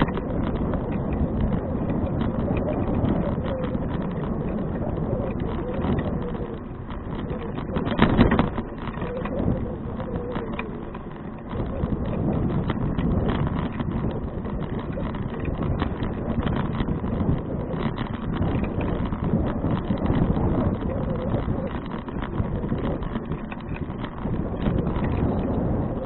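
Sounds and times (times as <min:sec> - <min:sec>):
small knocks and rattles: 0:00.0 - 0:26.0
wind buffeting microphone: 0:00.0 - 0:26.0.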